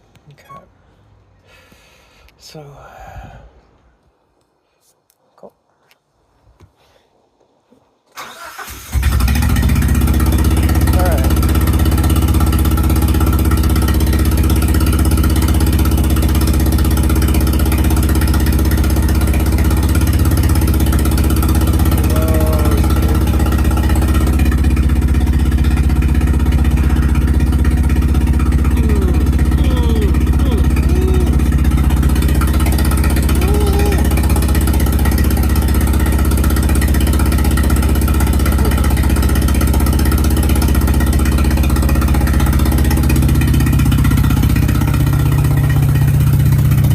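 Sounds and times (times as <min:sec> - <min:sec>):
car engine idling: 0:08.2 - 0:46.9.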